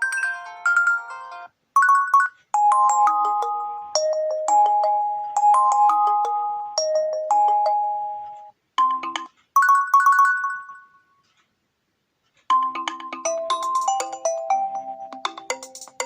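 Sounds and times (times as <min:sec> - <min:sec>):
phone ringtone melody: 0:00.0 - 0:11.1, 0:12.5 - 0:16.0.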